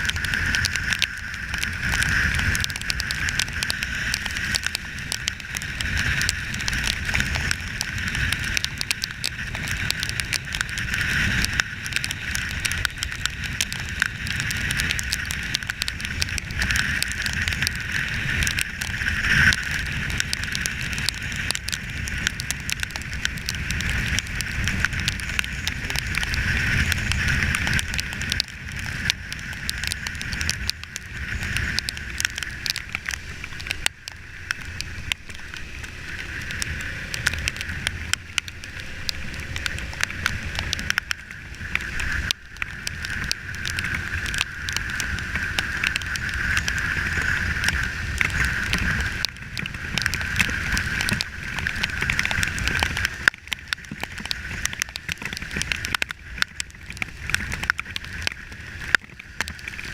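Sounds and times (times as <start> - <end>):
sharp ticks and crackles: 0.0 - 59.9
wind rushing over camera: 0.0 - 59.9.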